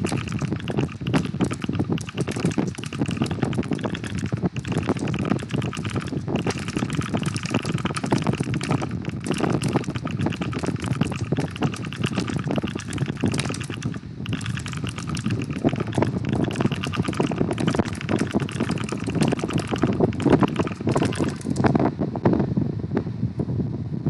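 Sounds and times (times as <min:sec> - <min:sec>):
mechanical keyboard typing: 0:00.0 - 0:21.8.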